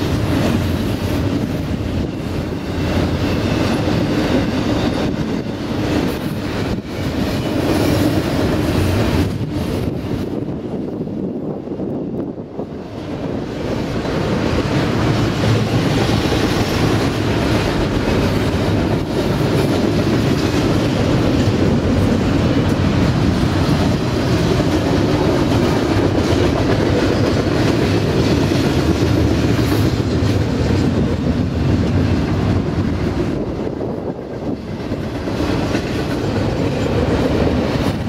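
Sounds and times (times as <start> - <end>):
freight train wheels rumbling on rails: 0.0 - 38.0.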